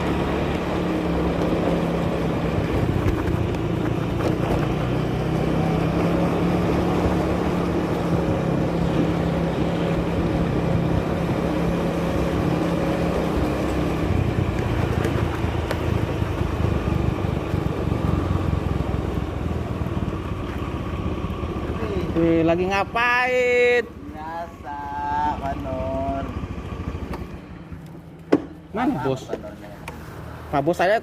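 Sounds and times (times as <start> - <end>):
motorcycle engine running: 0.0 - 29.6.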